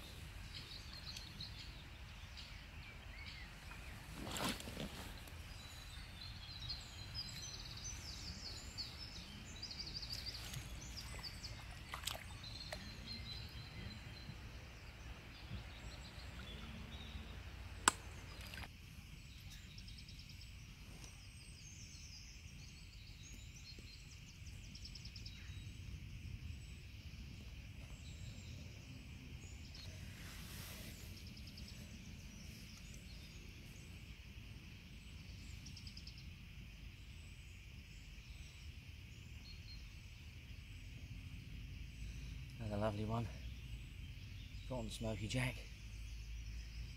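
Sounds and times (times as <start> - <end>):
low rumble of wind: 0.0 - 46.9
small birds chirping and singing: 0.0 - 46.9.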